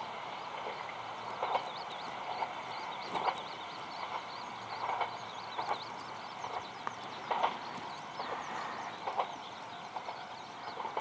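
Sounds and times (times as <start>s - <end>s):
birds chirping and calling: 1.4s - 11.0s.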